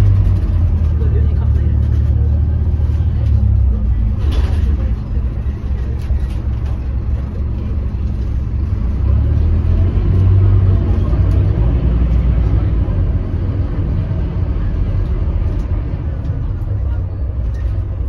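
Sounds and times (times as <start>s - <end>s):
bus engine and road noise drone: 0.0s - 18.0s.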